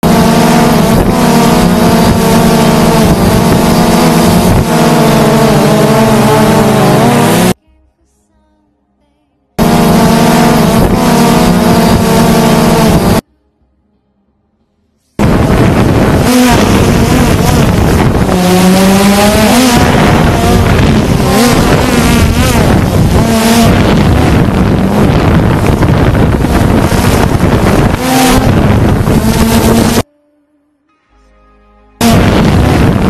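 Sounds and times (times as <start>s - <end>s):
drone motors whining: 0.0s - 7.6s, 9.6s - 13.2s, 15.2s - 30.0s, 32.0s - 33.0s
wind noise on microphone: 0.0s - 7.6s, 9.6s - 13.2s, 15.2s - 30.0s, 32.0s - 33.0s.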